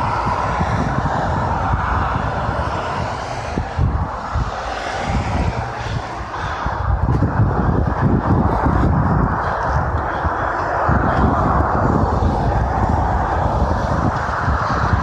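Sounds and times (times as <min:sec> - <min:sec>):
expressway traffic roar: 0:00.0 - 0:15.0
wind rumbling on microphone: 0:00.0 - 0:15.0.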